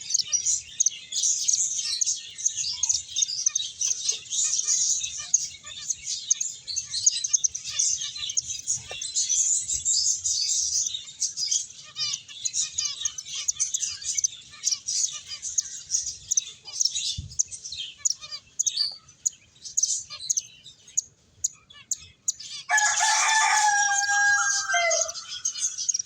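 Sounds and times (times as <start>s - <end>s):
finches chirping: 0.0s - 26.0s.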